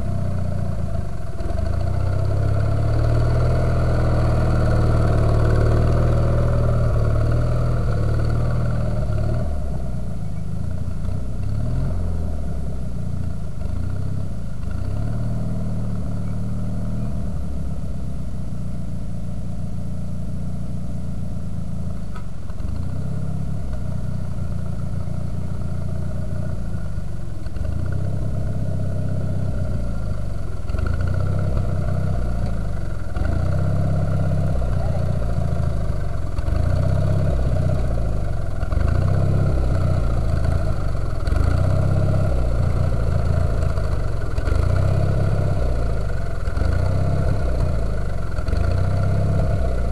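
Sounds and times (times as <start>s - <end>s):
garden tractor engine under load: 0.0s - 18.6s, 21.4s - 49.9s.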